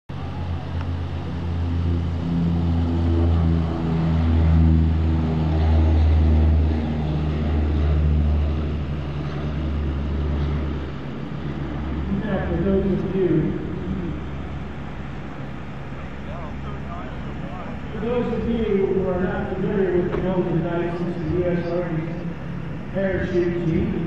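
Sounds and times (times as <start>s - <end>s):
turboprop plane propeller drone: 0.1s - 24.0s.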